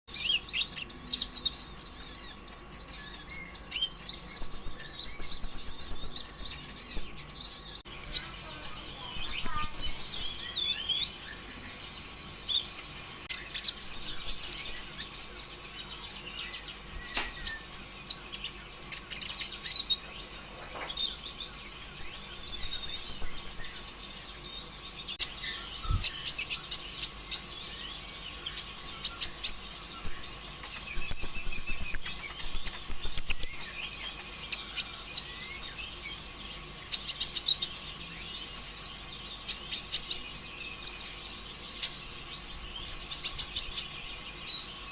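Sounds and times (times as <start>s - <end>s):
bird singing high chirps and trills: 0.1s - 44.9s.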